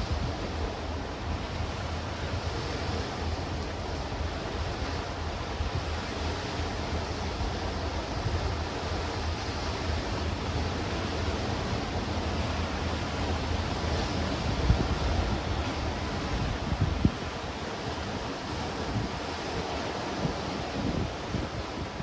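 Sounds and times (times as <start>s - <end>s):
waves breaking over rocks: 0.0s - 22.0s
wind rumbling on microphone: 0.0s - 22.0s.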